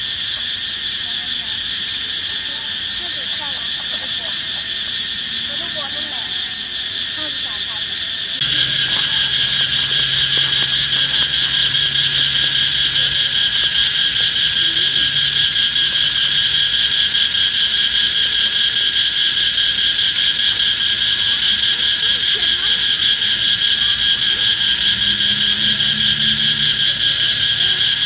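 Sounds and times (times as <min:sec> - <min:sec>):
shrill insect chorus: 0:00.0 - 0:28.0.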